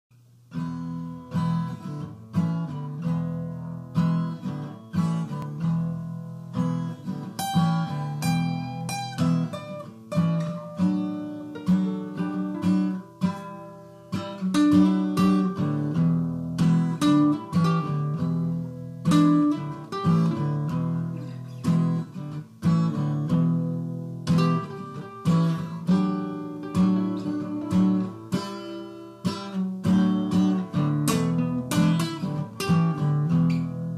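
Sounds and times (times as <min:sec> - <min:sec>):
acoustic guitars playing: 0:00.2 - 0:33.9.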